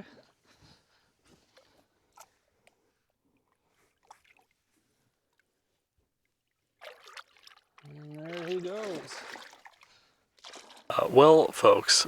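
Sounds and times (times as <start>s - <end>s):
faint water splashes: 1.3s - 12.0s.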